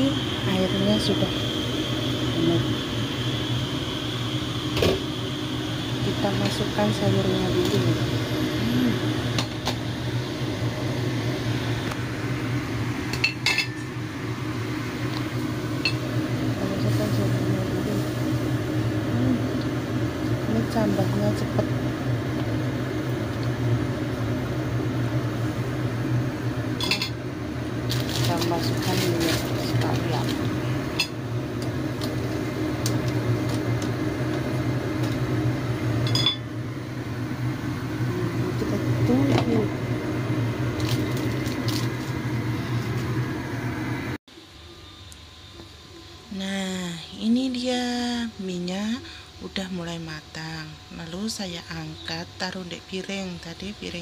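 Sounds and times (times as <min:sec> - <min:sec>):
pot of noodles cooking: 0:00.0 - 0:46.8
steady low hum: 0:00.0 - 0:54.0.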